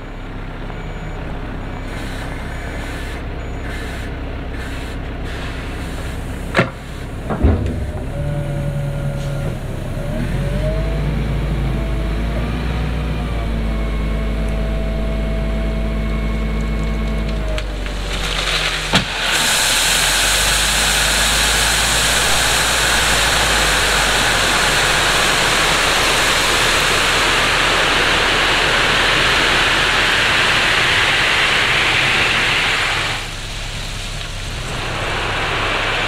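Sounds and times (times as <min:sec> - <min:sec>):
excavator engine running: 0:00.0 - 0:36.0
hydraulic whine: 0:00.0 - 0:36.0.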